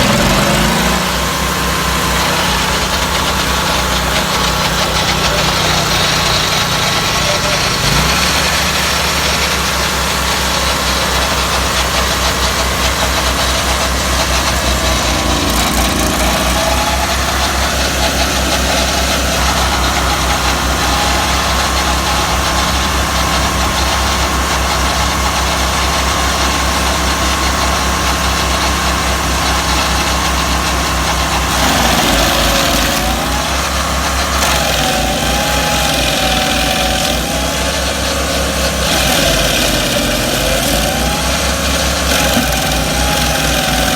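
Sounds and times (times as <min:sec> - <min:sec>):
stump grinder engines droning: 0:00.0 - 0:43.9.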